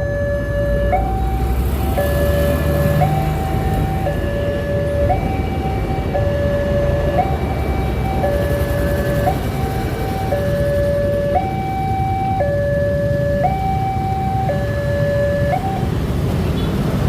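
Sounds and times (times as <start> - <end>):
two-tone electronic alarm: 0.0 - 16.0.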